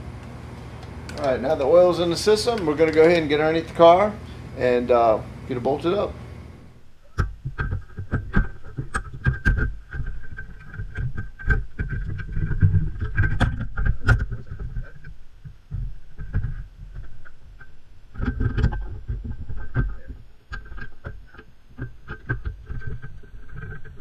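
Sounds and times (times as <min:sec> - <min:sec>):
low rumbling handling noise: 0:00.0 - 0:24.0.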